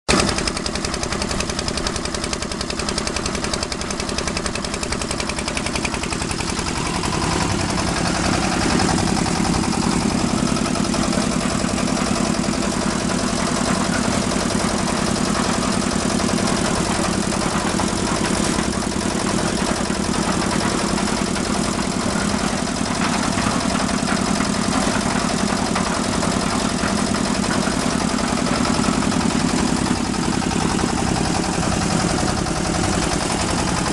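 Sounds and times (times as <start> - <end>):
concrete mixer engine knocking: 0.1 - 33.9.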